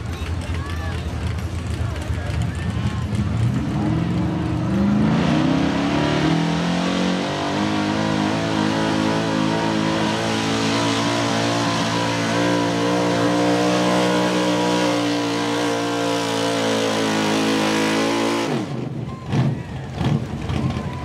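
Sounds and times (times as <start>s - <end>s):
truck engine revving high: 0.0s - 21.0s.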